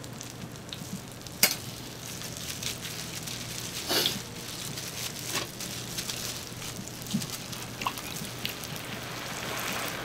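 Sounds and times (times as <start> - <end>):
food sizzling in oil: 0.0 - 10.0
rustling: 1.8 - 10.0.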